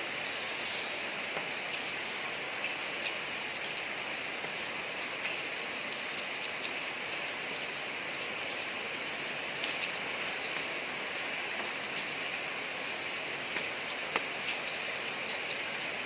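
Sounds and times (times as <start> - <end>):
rain falling on a street: 0.0 - 16.0.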